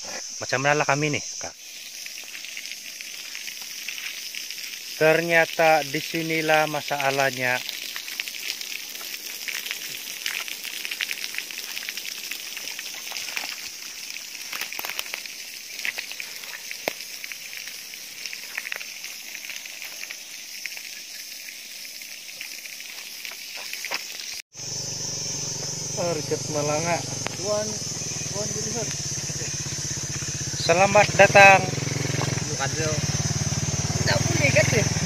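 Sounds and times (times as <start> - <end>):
water spraying from pipe: 0.0 - 35.0
spray crackling on ground: 1.4 - 35.0.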